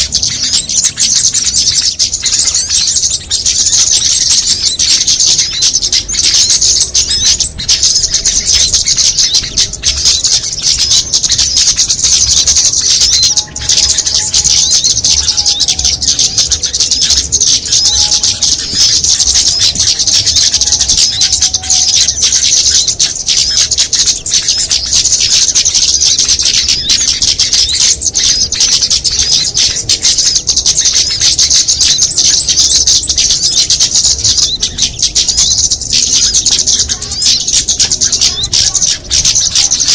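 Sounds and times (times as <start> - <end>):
low whistled bird notes: 0.0 - 39.9
songbirds twittering: 0.0 - 39.9.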